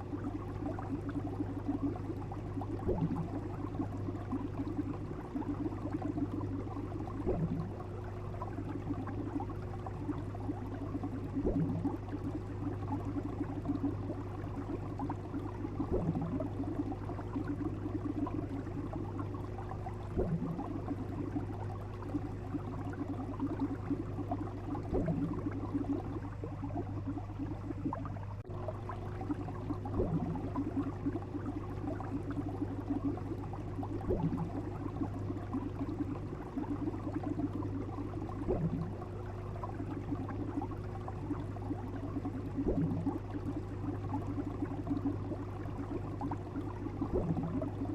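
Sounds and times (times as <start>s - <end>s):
water bubbling and gurgling: 0.0s - 47.9s.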